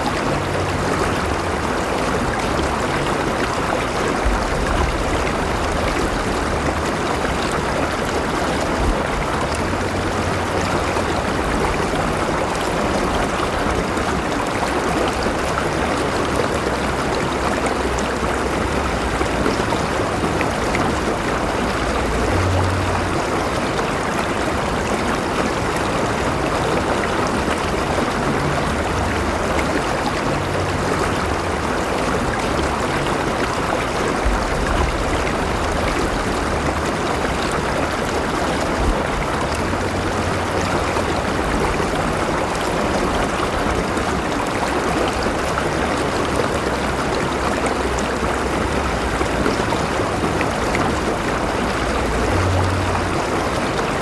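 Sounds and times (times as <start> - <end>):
river water splashing over rocks: 0.0 - 54.0.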